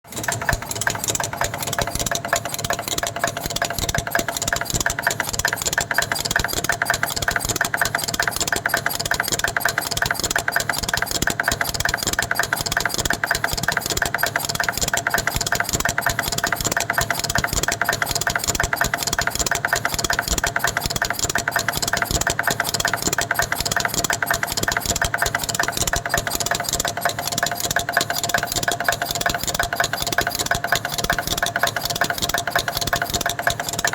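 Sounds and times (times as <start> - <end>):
chain-making machine clattering: 0.1 - 33.9
constant machine hum: 0.1 - 33.9.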